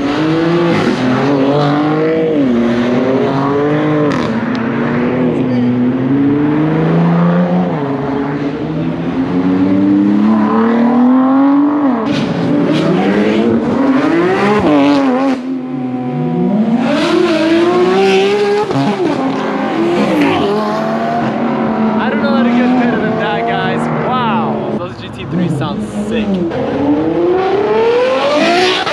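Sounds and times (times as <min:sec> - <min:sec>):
car engines accelerating hard: 0:00.0 - 0:28.9.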